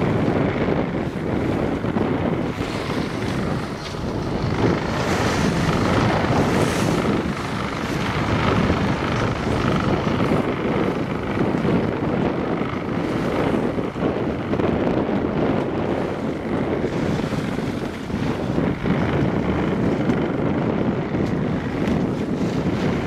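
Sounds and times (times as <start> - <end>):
choppy water washing past hull: 0.0 - 23.0
wind buffeting microphone: 0.0 - 23.0.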